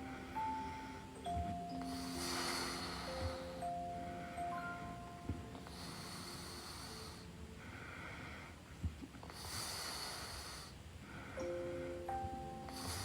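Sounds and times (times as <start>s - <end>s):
woman breathing noisily: 0.0s - 13.0s.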